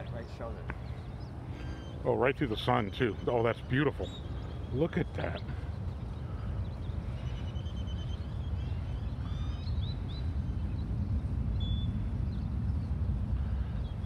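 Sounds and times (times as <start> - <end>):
low outdoor rumble: 0.0 - 14.0
small birds chirping and whistling: 0.2 - 13.1.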